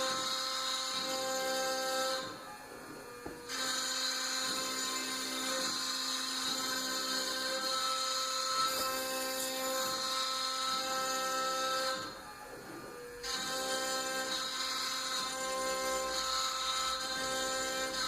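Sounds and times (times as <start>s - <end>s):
router machine whine: 0.0s - 18.0s.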